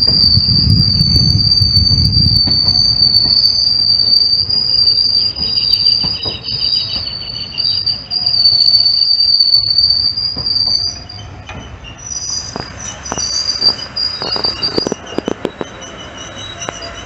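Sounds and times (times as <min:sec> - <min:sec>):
train high-pitched whine: 0:00.0 - 0:17.0
train wheels rumbling: 0:00.0 - 0:17.0
wheels clacking on track: 0:00.0 - 0:17.0.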